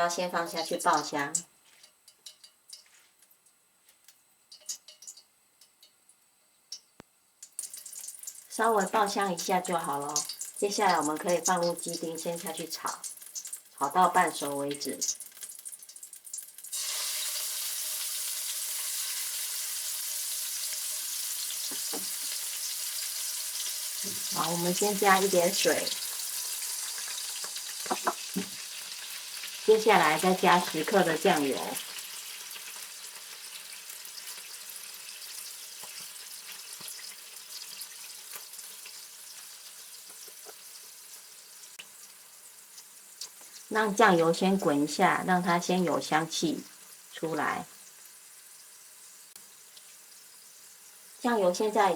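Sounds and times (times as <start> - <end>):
chicken sizzling in hot oil: 0.0 - 3.2, 4.2 - 6.1, 6.7 - 51.9.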